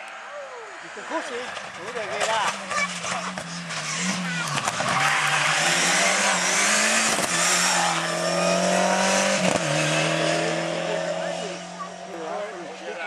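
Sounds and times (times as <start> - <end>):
rally car engine passing at speed: 0.9 - 13.0.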